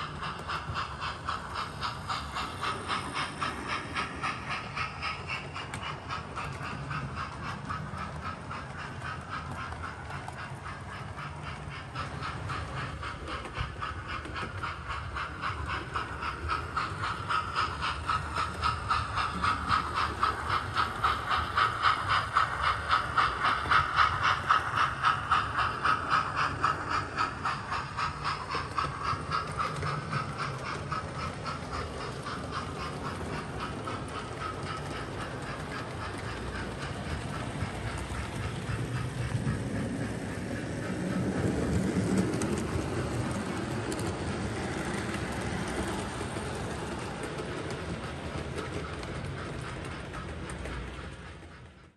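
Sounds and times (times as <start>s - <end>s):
model steam locomotive chuffing: 0.0s - 51.9s.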